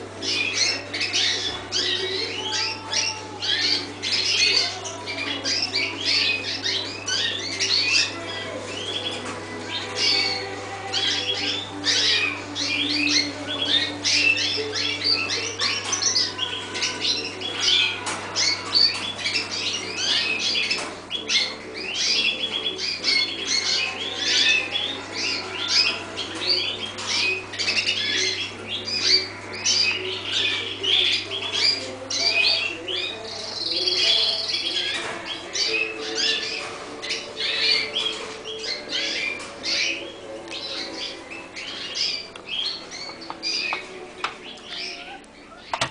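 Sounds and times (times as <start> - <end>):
canaries chirping and singing: 0.0 - 45.9.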